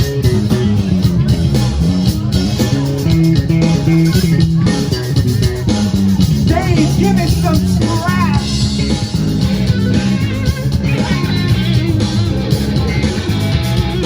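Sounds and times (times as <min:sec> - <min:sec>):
electric bass line: 0:00.0 - 0:14.0
guitar: 0:00.0 - 0:14.0.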